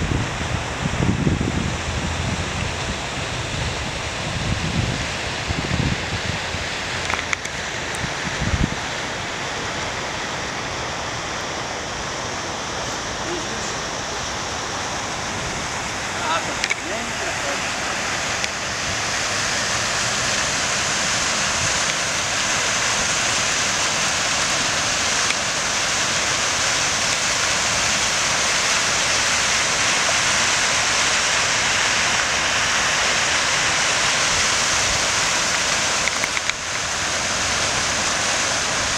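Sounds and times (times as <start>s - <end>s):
fountain splashing: 0.0s - 38.9s.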